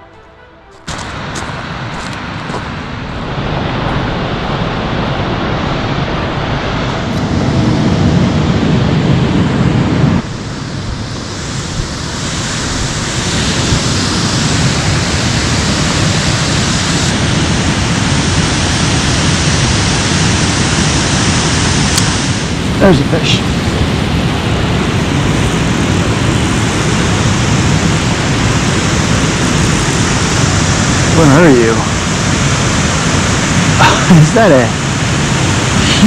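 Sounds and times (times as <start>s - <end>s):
water rushing below a dam: 0.9s - 36.0s.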